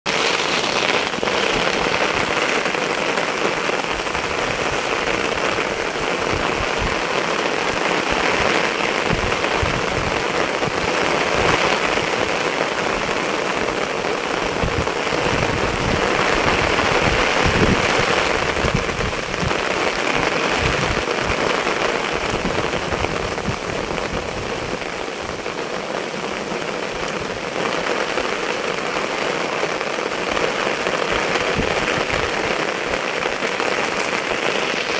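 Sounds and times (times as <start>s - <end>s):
rain falling on water: 0.1s - 34.9s.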